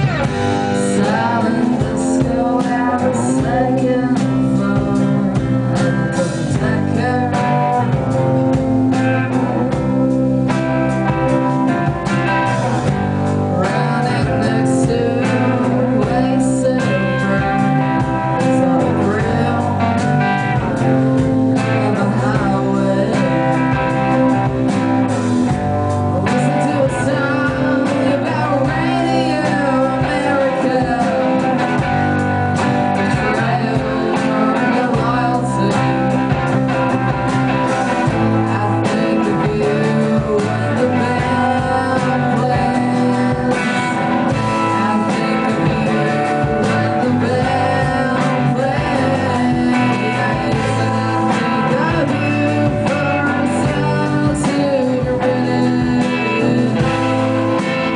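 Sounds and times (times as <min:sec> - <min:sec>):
electric guitar: 0:00.0 - 0:57.9
person singing: 0:00.0 - 0:57.9
rock band playing live: 0:00.0 - 0:57.9.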